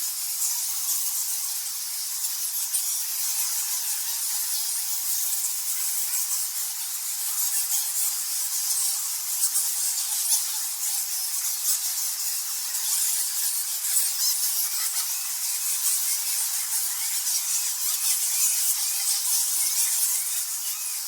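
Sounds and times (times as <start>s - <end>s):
bats squeaking and chittering: 0.2s - 21.0s.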